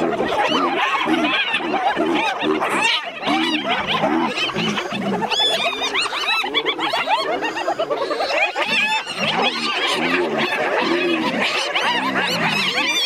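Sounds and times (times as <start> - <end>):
hyenas giggling and yelping: 0.0 - 13.0.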